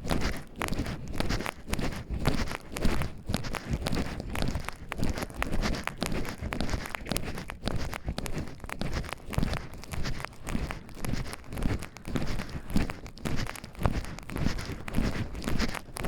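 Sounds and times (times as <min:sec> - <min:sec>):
footsteps on forest path: 0:00.0 - 0:16.0.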